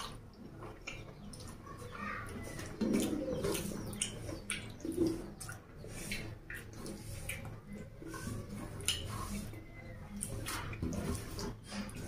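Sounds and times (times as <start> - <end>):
fingers squishing food: 0.0 - 12.0.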